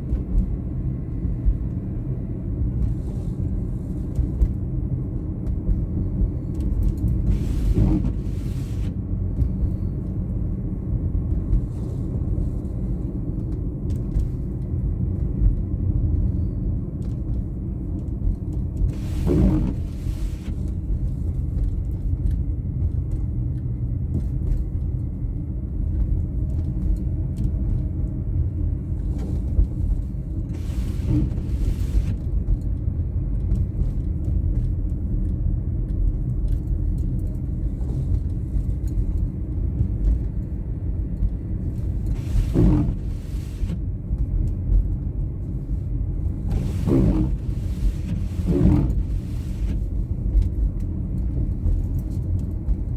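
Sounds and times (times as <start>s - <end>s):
car engine rumble: 0.0s - 52.9s.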